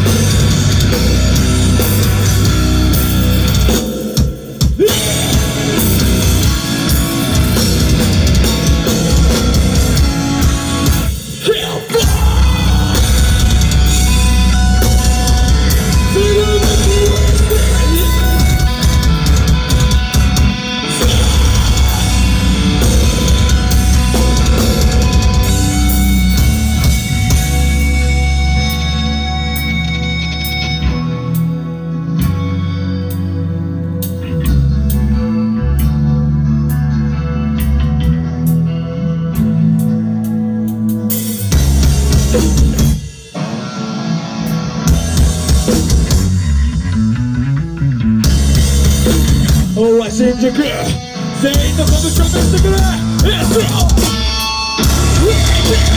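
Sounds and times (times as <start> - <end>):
pounding drum kit: 0.0 - 31.5, 40.2 - 55.9
bass guitar: 0.0 - 55.9
distorted electric guitars: 0.0 - 55.9
metal band playing live: 0.0 - 55.9.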